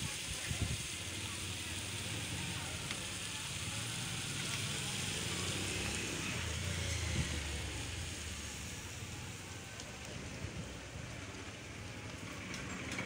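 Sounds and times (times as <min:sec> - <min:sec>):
noodles sizzling in a wok: 0:00.0 - 0:13.0.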